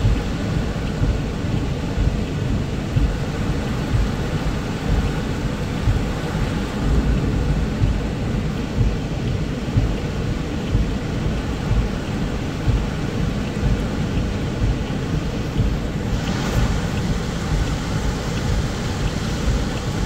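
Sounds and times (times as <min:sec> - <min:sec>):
heavy rain on car roof: 0:00.0 - 0:20.0.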